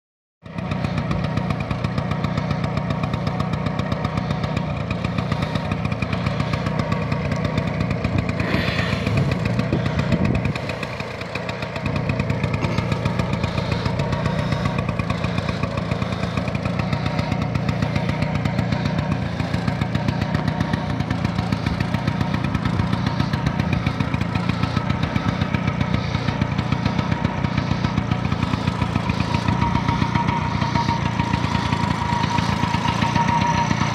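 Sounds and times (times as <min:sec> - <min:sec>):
scooter engine idling: 0:00.4 - 0:33.9.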